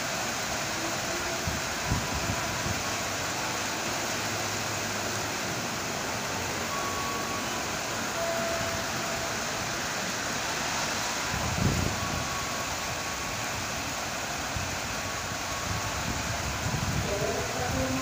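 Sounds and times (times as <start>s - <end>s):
heavy rain on roof: 0.0s - 18.0s.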